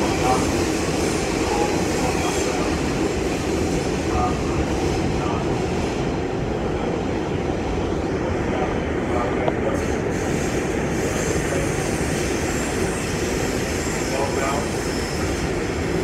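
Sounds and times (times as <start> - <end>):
subway car wheels on rails: 0.0 - 16.0.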